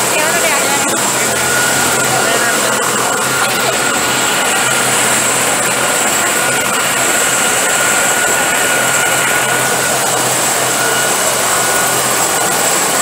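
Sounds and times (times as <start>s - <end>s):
helicopter rotors roaring: 0.0s - 13.0s
helicopter turbine whine: 0.0s - 13.0s.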